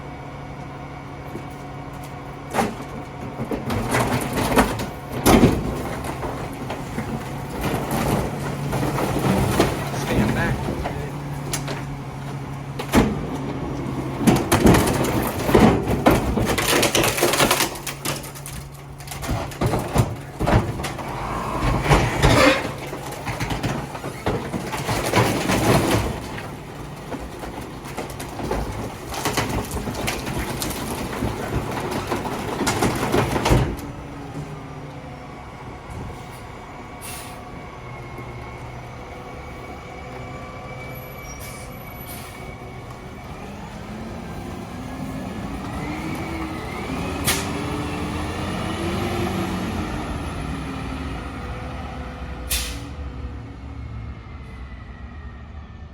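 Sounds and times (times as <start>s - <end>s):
garbage truck running with whine: 0.0s - 55.9s
trash clattering and banging: 0.3s - 40.7s, 41.3s - 52.9s.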